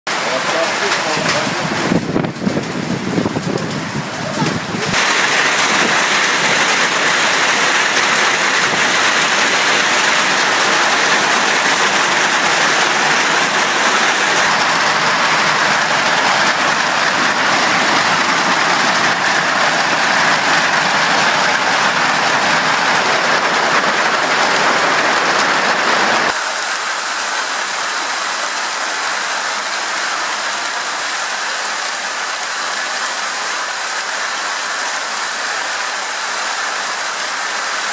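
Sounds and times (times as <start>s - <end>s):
hail and heavy rain pelting: 0.1s - 37.9s.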